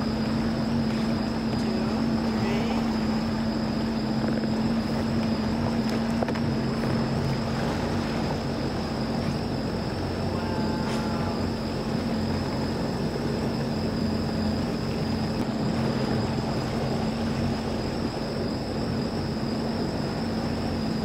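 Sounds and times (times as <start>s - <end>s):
motorboat engine humming: 0.0s - 21.0s
water rushing: 0.0s - 21.0s
wind: 0.0s - 21.0s.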